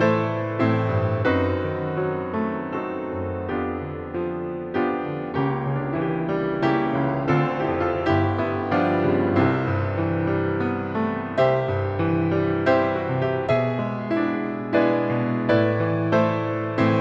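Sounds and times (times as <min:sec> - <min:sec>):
grand piano playing hymn: 0:00.0 - 0:17.0.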